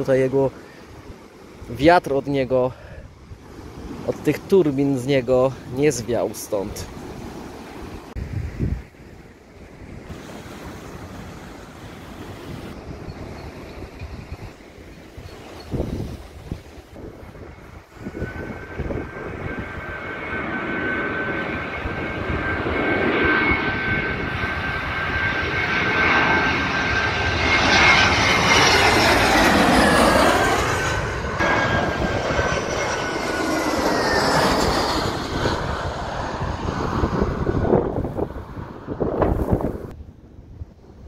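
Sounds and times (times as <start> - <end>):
airliner engine whine and roar: 0.0 - 2.1, 2.7 - 41.0.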